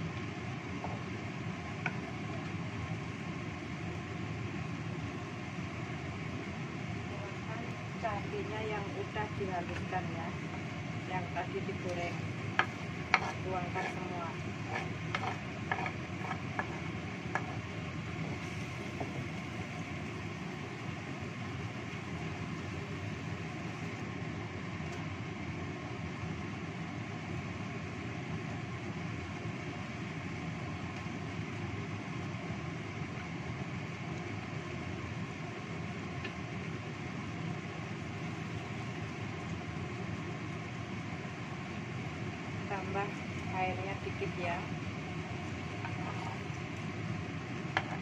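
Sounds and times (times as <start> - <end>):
stew sizzling in a wok: 0.0 - 48.0.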